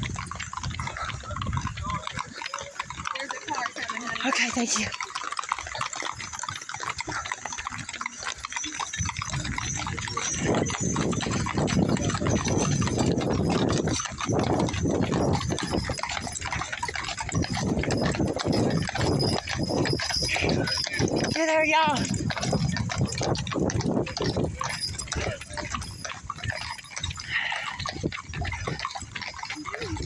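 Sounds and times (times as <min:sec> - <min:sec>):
horses' hooves clip-clopping: 0:00.0 - 0:30.0.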